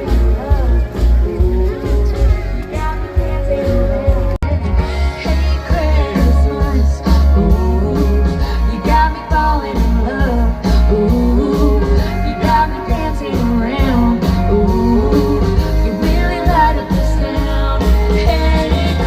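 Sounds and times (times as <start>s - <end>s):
guitar: 0.0s - 19.0s
heavy bass: 0.0s - 19.0s
live band music: 0.0s - 19.0s
steady drum beat: 0.0s - 19.0s.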